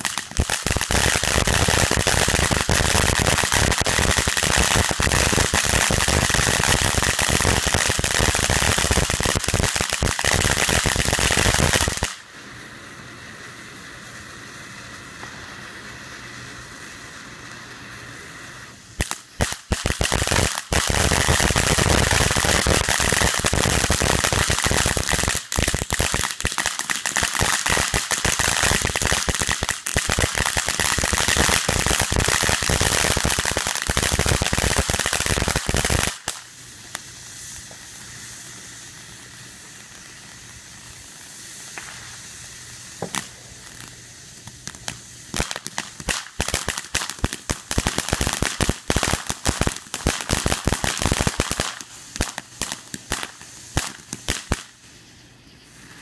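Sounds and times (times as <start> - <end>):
fireworks crackling and popping: 0.0 - 56.0
hiss of spraying sparks: 0.0 - 56.0.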